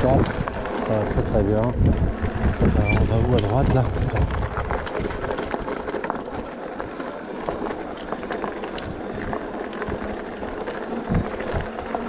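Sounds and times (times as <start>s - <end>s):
small clicks and rattles: 0.0s - 12.0s
tyre and wind noise: 0.0s - 12.0s.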